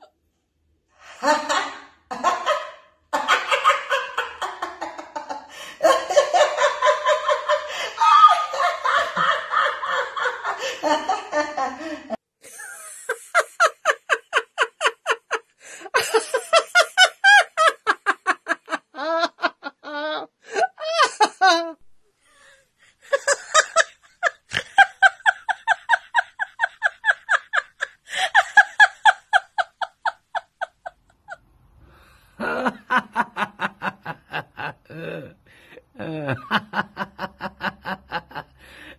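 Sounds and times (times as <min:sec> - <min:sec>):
women laughing heartily: 0:01.1 - 0:21.8, 0:22.4 - 0:31.4, 0:32.4 - 0:38.9.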